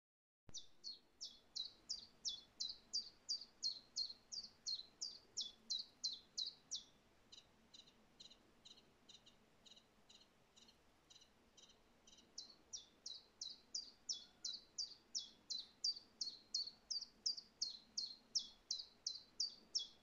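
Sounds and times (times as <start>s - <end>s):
faint bird chirps: 0.5s - 20.0s
songbird singing downward notes: 0.6s - 20.0s.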